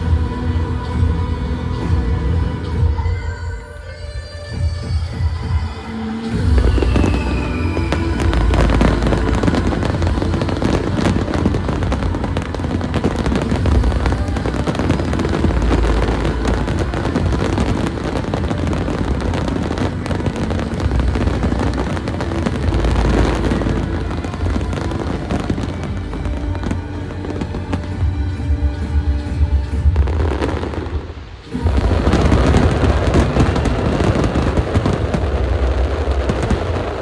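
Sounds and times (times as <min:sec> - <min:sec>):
music playing: 0:00.0 - 0:37.0
fireworks crackling and booming: 0:06.3 - 0:37.0.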